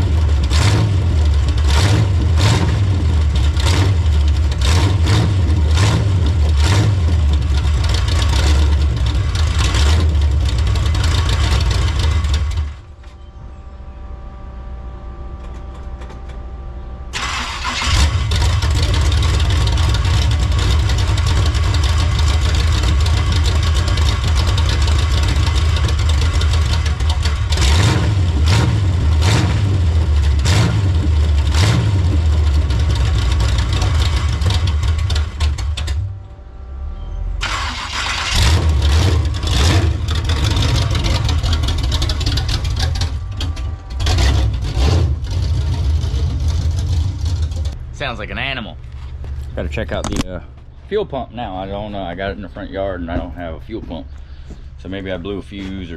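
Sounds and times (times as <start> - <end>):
car engine revving: 0.0 - 13.0, 14.2 - 50.2
low steady hum: 0.0 - 55.9.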